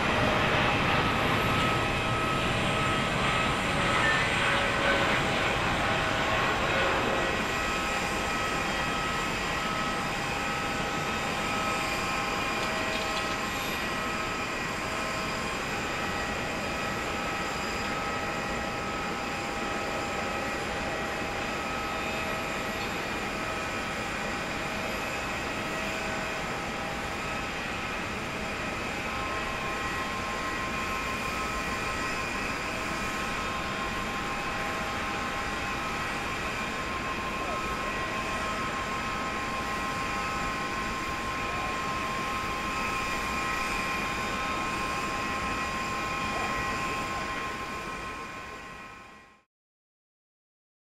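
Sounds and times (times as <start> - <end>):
jet engine rumble: 0.0 - 48.6.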